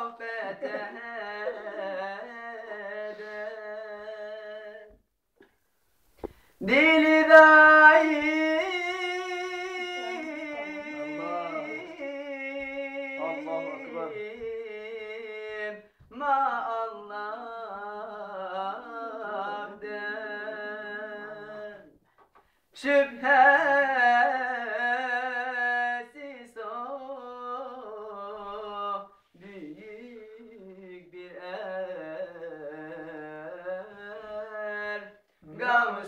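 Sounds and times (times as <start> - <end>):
man singing unaccompanied: 0.0 - 5.0, 6.6 - 22.0, 22.7 - 36.0.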